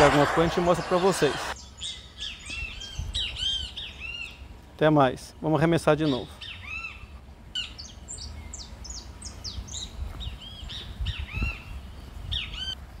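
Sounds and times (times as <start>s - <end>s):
low steady rumble: 0.0s - 13.0s
songbirds whistling and chirping: 0.6s - 4.5s, 6.0s - 12.8s.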